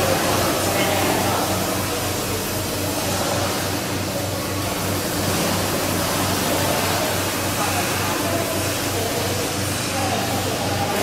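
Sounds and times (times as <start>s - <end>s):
milking machinery pulsing hiss: 0.0s - 11.0s.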